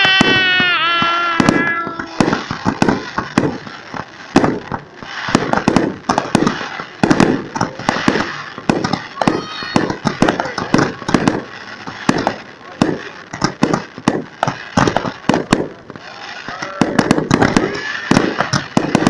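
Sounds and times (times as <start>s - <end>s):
fireworks hiss and crackle: 0.0s - 19.0s
fireworks popping and banging: 0.0s - 19.0s.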